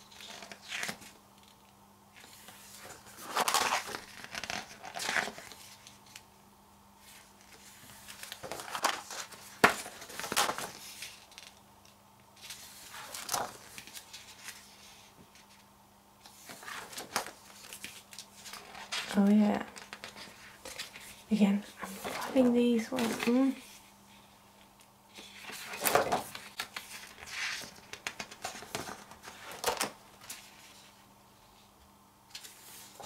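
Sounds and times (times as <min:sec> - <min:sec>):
pages turning and rustling: 0:00.0 - 0:06.3, 0:07.0 - 0:15.6, 0:16.2 - 0:31.0, 0:32.3 - 0:33.0.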